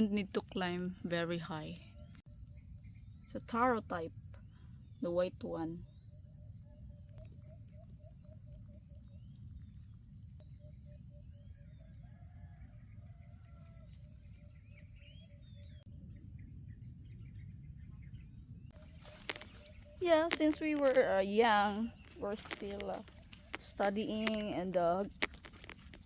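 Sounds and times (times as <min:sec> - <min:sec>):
insect trill: 0:00.0 - 0:26.0.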